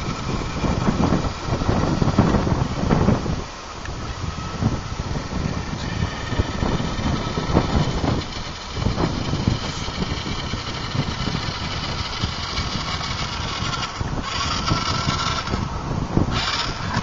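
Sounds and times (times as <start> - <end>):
toy car electric motor whirring: 0.0 - 2.6, 4.3 - 17.0
plastic wheels rolling on asphalt: 0.0 - 17.0.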